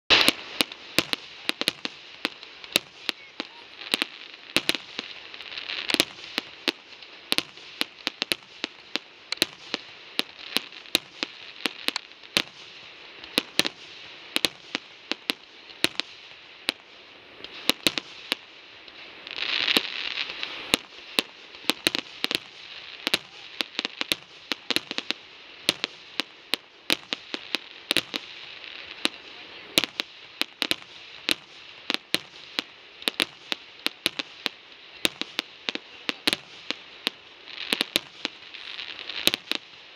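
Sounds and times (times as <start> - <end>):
fireworks bangs: 0.1 - 39.9
steady hiss: 0.1 - 39.9.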